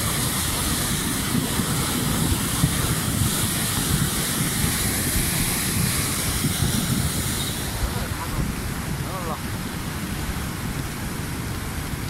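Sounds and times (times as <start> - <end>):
floodwater rushing over rocks: 0.0 - 12.0.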